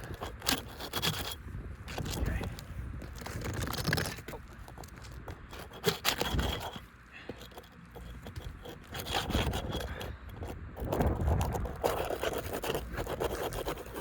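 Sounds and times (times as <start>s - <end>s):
tool scraping under roof shingles: 0.0s - 14.0s.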